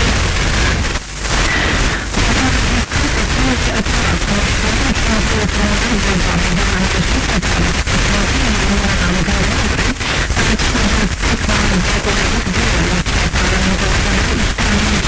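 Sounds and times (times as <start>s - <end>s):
radio static hiss: 0.0s - 15.0s
faint radio talk: 1.4s - 15.0s.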